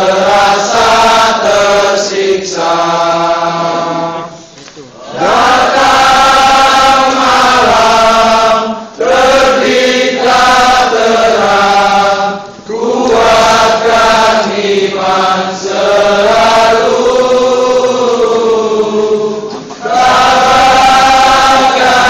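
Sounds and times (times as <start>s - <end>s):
group of voices singing: 0.0s - 4.4s, 5.0s - 22.0s.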